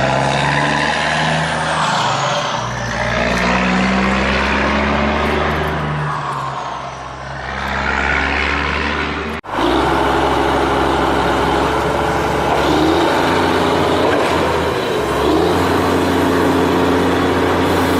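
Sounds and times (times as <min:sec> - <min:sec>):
construction machine engines running: 0:02.2 - 0:17.9.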